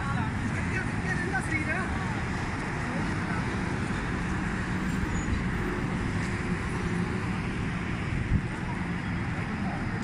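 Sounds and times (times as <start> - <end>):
cars driving past: 0.0 - 10.0.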